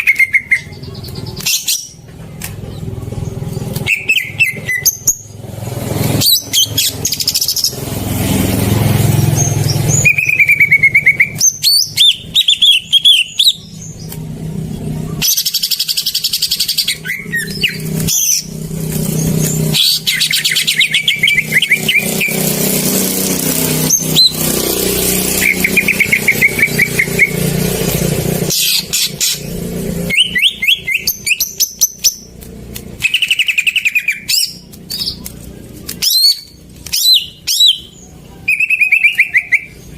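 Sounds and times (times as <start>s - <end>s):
bird trilling and chirping: 0.0s - 39.9s.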